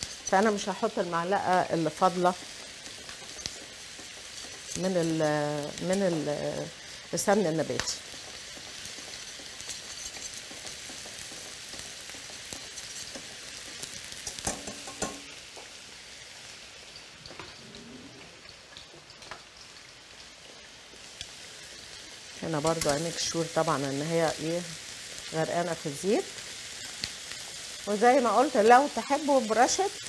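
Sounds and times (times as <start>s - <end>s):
oil sizzling in frying pans: 0.0s - 30.0s.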